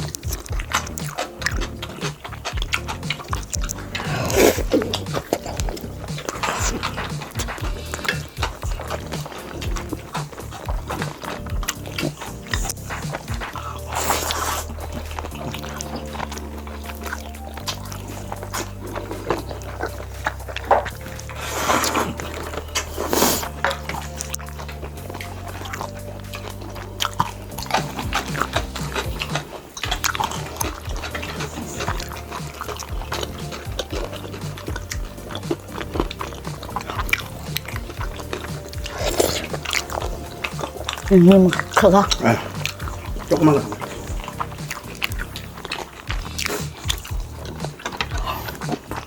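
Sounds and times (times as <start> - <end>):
background music with low notes: 0.0 - 49.0
crunchy clicks: 0.0 - 49.0
loud noisy stretches: 0.0 - 49.0
person biting and chewing food: 0.0 - 49.0.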